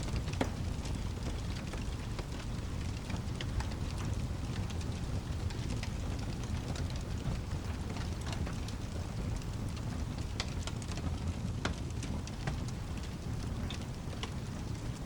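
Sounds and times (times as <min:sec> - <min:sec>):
fireplace crackling: 0:00.0 - 0:15.0
steady rain: 0:00.0 - 0:15.0.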